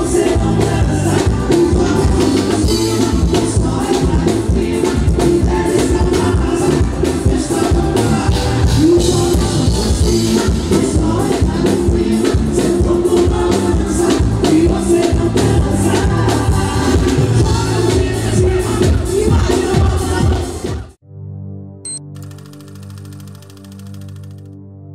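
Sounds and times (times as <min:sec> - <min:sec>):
live band with singing: 0:00.0 - 0:21.0.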